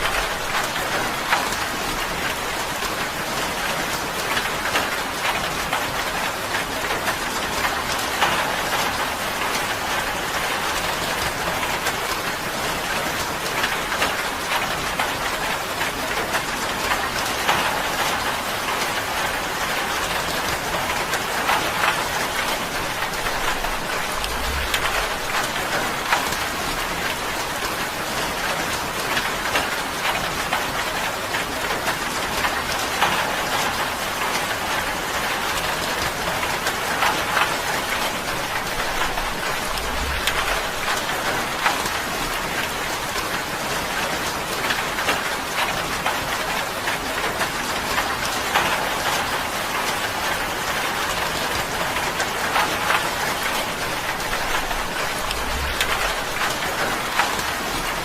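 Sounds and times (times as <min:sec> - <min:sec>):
rain on tin: 0:00.0 - 0:58.0.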